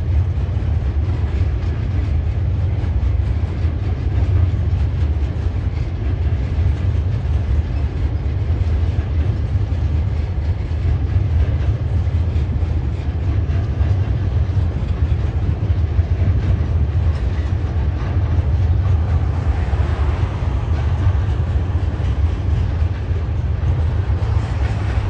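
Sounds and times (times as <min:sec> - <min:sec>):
freight wagons rumbling over bridge: 0:00.0 - 0:25.0.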